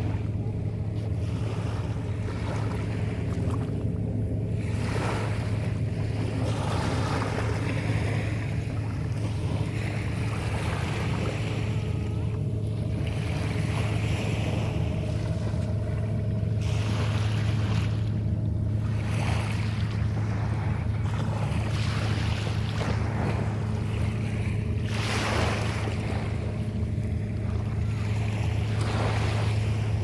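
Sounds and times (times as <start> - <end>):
low engine hum: 0.0 - 30.0
wind: 0.0 - 30.0.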